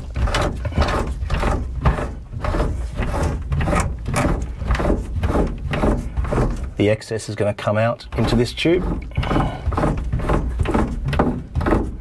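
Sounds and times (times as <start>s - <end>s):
steering helm clicking and scraping: 0.0s - 7.0s, 8.0s - 12.0s.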